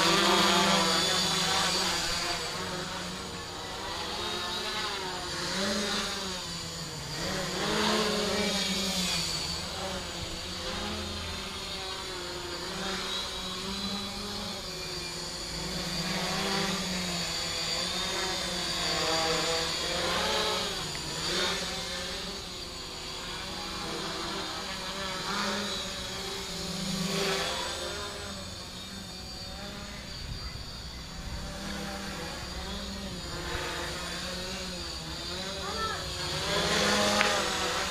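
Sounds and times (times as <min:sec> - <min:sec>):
drone motors and propellers whining: 0:00.0 - 0:37.9.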